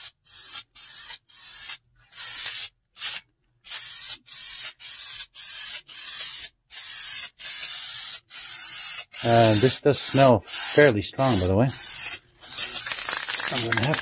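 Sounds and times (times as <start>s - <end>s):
aerosol can spraying: 0.0s - 14.0s.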